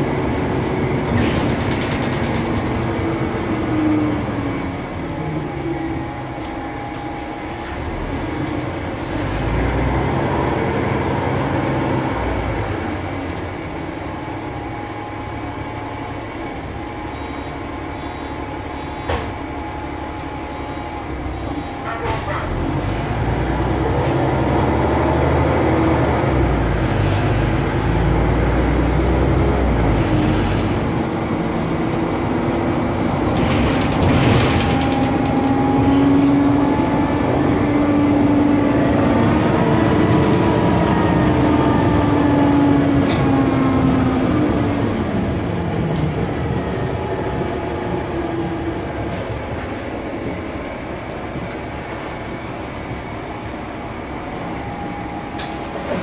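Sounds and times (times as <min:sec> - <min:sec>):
bus engine and cooling fan: 0:00.0 - 0:56.0.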